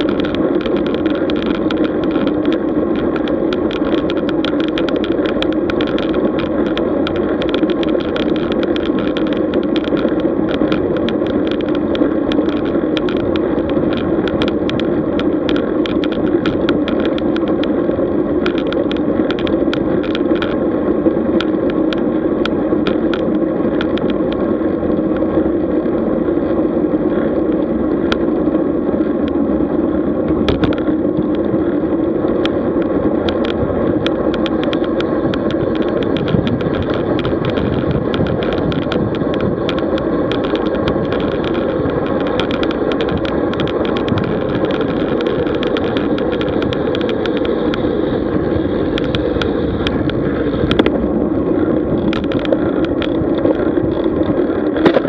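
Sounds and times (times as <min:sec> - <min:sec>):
bicycle clicks and rattles: 0:00.0 - 0:55.0
road noise: 0:00.0 - 0:55.0
wind noise: 0:00.0 - 0:55.0.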